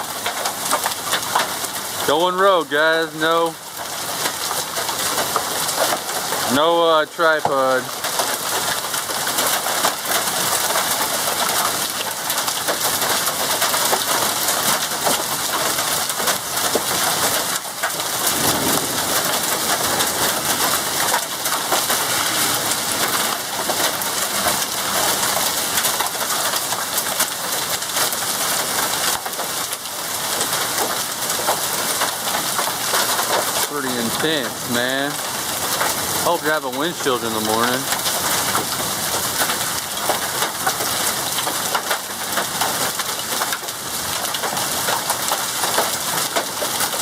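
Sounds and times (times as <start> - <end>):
heavy hail on hard surfaces: 0.0 - 47.0.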